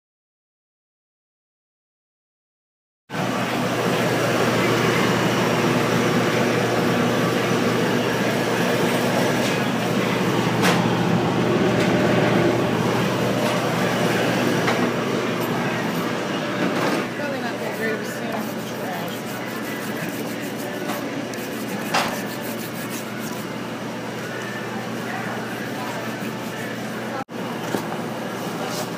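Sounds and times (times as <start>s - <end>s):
oven blowers whirring: 3.1s - 28.9s.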